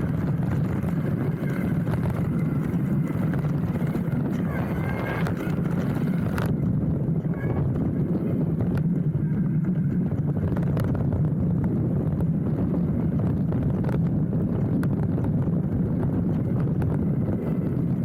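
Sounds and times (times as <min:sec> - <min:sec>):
bike tyres rumbling on dirt: 0:00.0 - 0:18.0.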